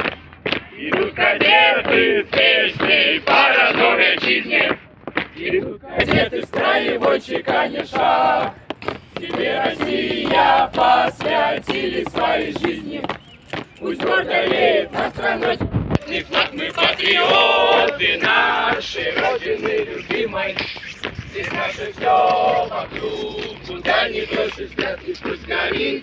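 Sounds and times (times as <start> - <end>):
marching footsteps on road: 0.0 - 26.0
group singing in unison: 0.7 - 26.0.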